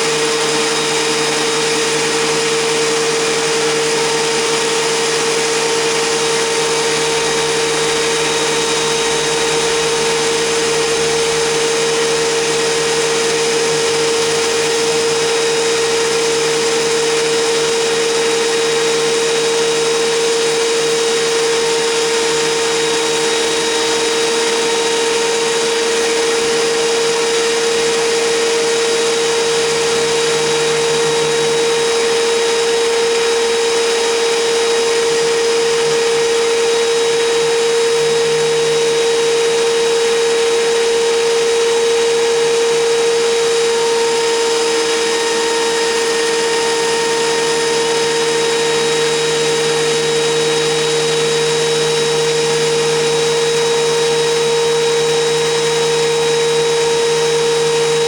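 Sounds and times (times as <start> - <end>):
thickness planer motor whine: 0.0 - 58.0.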